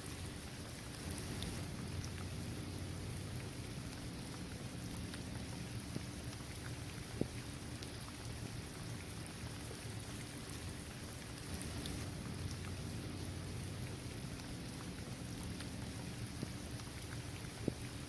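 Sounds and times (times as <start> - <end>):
raindrops ticking: 0.0 - 18.0
steady rain on hard surface: 0.0 - 18.0.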